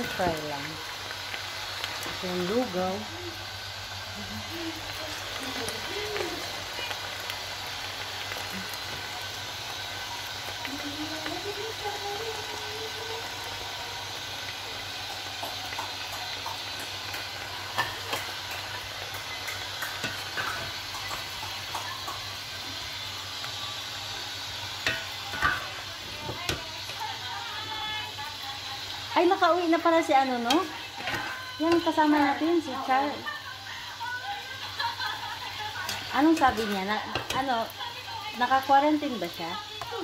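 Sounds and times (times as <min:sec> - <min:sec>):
vegetables sizzling in a pot: 0:00.0 - 0:40.0.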